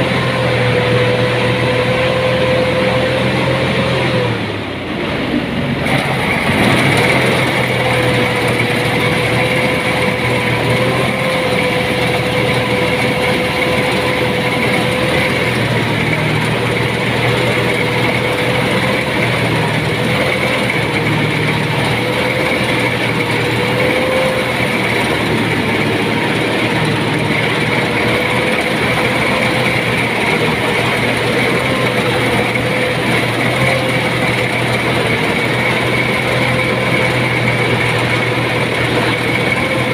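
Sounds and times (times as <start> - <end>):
constant high whine: 0.0 - 39.9
thresher engine drone: 0.0 - 39.9.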